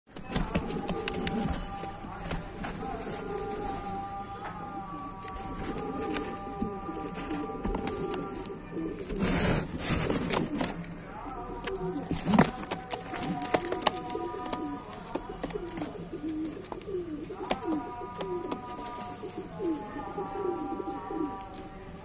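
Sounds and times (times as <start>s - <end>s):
pigeons cooing: 0.2s - 4.2s, 4.8s - 21.5s.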